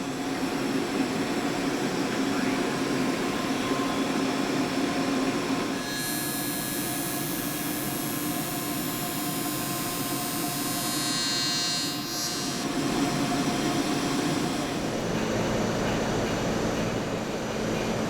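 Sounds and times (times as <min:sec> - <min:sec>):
factory machine hum: 0:00.0 - 0:18.0.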